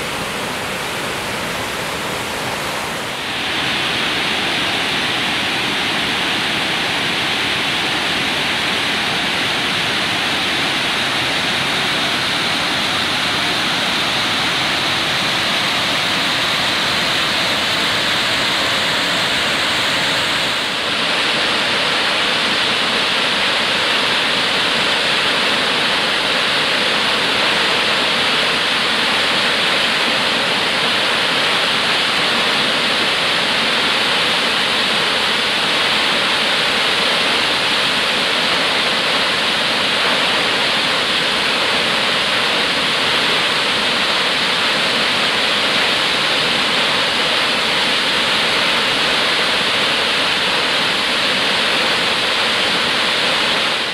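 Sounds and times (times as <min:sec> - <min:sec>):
waterfall rushing over rocks: 0:00.0 - 0:53.9.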